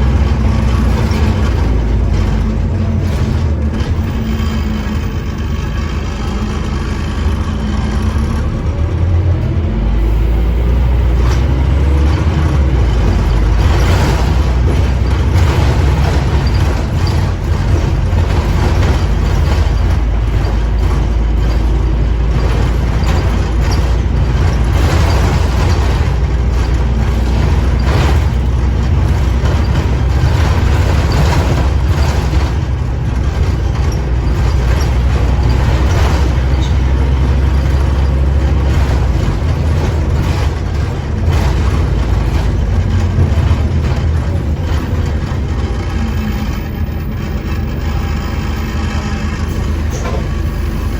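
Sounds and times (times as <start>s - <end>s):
rattles: 0.0s - 9.1s, 11.0s - 50.9s
bus diesel engine rumbling: 0.0s - 50.9s.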